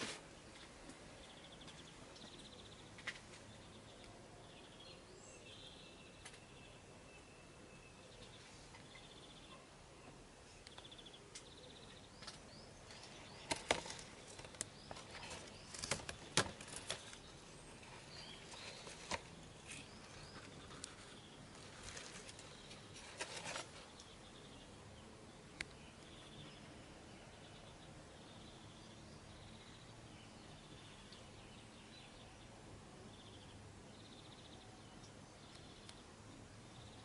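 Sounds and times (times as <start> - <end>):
leaves and pots rustling and clicking: 0.0 - 7.2, 8.0 - 32.6
faint steady hiss: 0.0 - 37.0.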